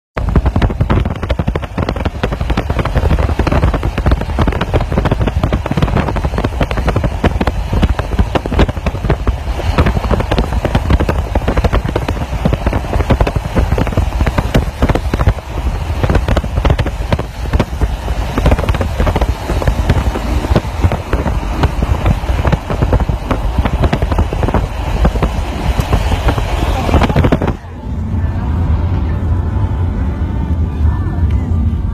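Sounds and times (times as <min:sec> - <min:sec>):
moving car rumble: 0:00.1 - 0:31.9
wind buffeting microphone: 0:00.2 - 0:30.8.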